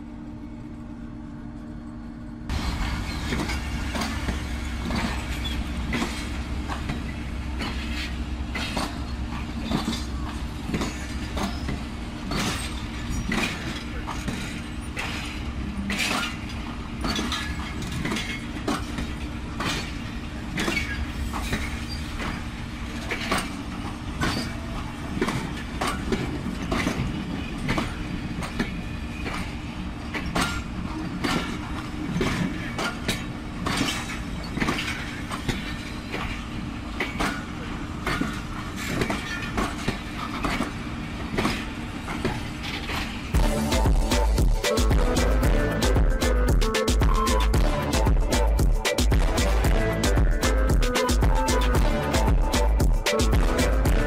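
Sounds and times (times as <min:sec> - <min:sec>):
train rumbling past: 0:00.0 - 0:54.0
wheels clattering over rail joints: 0:02.5 - 0:49.6.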